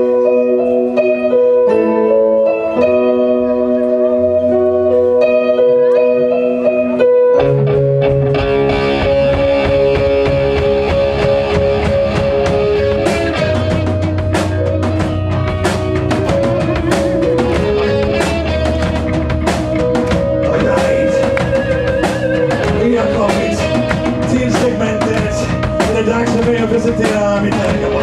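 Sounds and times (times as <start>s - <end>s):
held keyboard chords: 0.0s - 28.0s
rock band playing: 0.0s - 28.0s.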